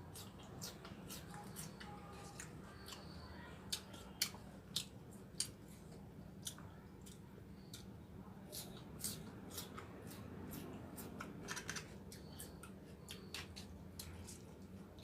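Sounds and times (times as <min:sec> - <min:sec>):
low steady hum: 0:00.0 - 0:15.0
person chewing noodles: 0:00.0 - 0:15.0.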